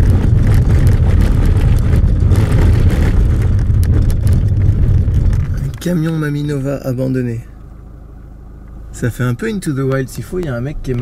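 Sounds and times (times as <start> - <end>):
tyres rumbling on dirt track: 0.0 - 7.4, 8.9 - 11.0.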